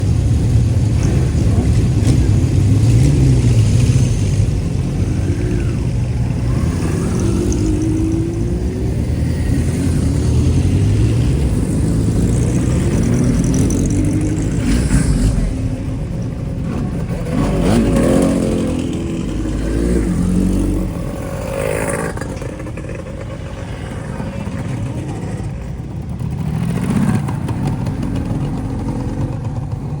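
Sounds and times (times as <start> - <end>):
motorcycle exhausts revving: 0.0 - 30.0.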